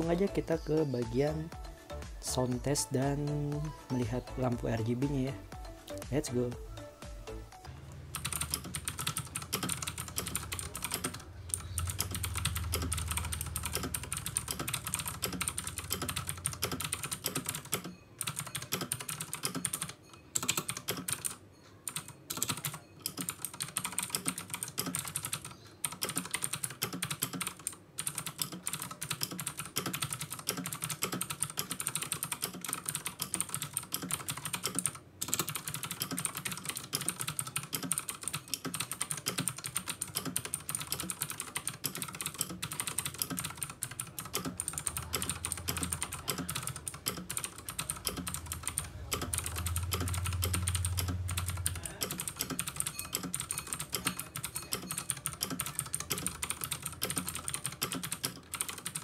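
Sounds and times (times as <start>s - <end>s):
fast mechanical keyboard typing: 8.1s - 59.0s.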